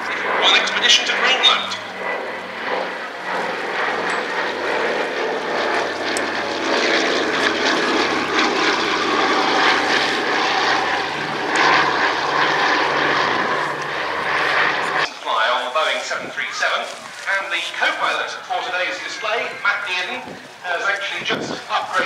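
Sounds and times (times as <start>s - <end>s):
propeller plane engines in flight: 0.0s - 22.0s.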